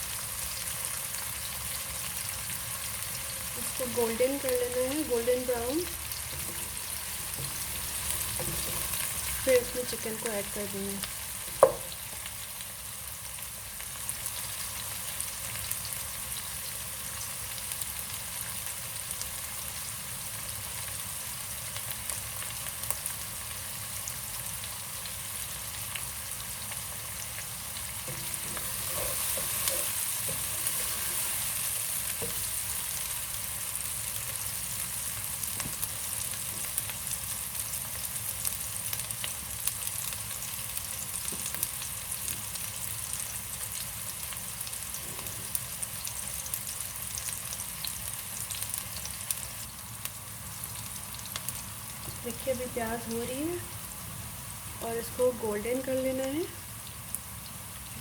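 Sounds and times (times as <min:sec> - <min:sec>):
onions sizzling in oil: 0:00.0 - 0:58.0.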